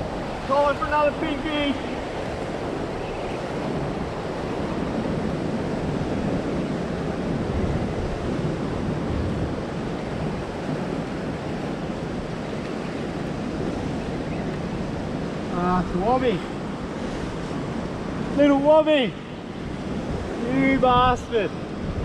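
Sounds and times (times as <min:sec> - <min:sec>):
ocean waves breaking on rocks: 0:00.0 - 0:22.0
wind buffeting microphone: 0:00.0 - 0:22.0.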